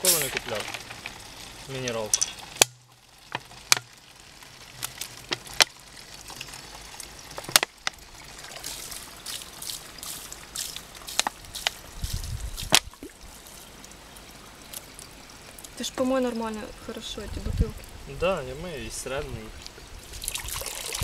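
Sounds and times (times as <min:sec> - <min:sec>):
water pouring from plastic bottle: 0:00.0 - 0:15.8, 0:19.5 - 0:21.0.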